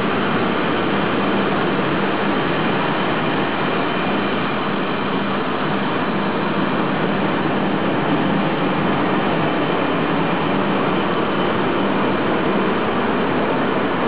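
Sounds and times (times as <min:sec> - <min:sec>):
passenger train running on rails: 0:00.0 - 0:14.0.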